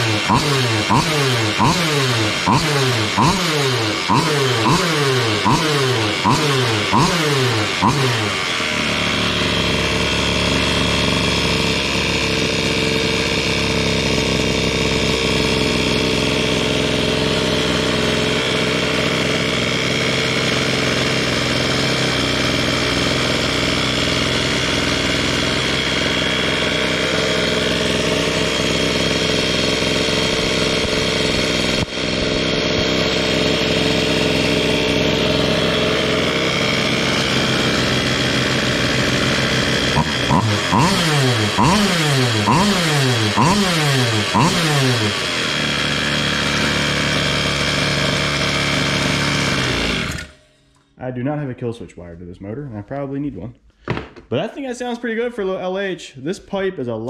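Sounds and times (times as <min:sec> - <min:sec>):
two-stroke engine running: 0:00.0 - 0:50.4.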